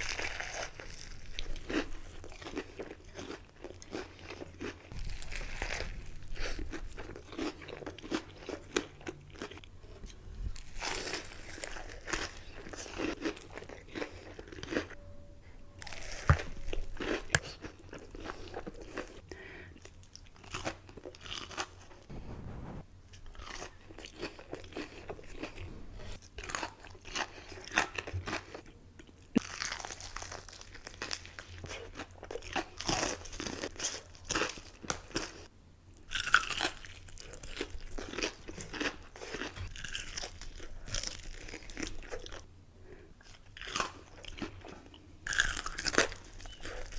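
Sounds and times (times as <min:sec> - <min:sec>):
person chewing crunchy food: 0:00.0 - 0:15.0, 0:15.8 - 0:42.5, 0:43.2 - 0:46.9.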